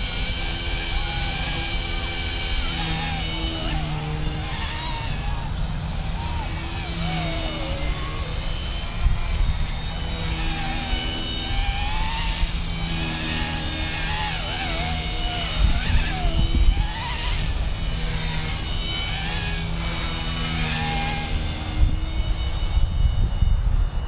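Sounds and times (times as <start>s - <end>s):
rc helicopter motor whine: 0.0s - 24.0s.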